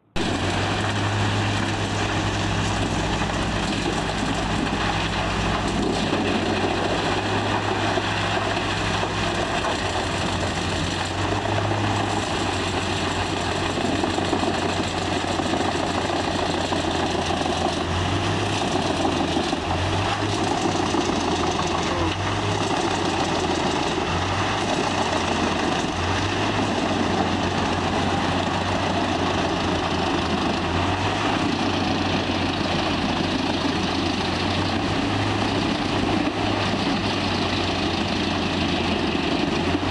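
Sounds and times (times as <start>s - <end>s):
logs grinding in chipper: 0.0s - 39.9s
wood chipper engine hum: 0.0s - 39.9s.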